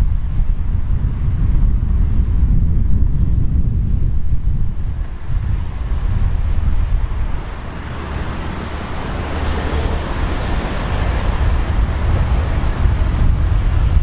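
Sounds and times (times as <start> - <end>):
locomotive rumble: 0.0 - 14.0
road traffic: 0.0 - 14.0.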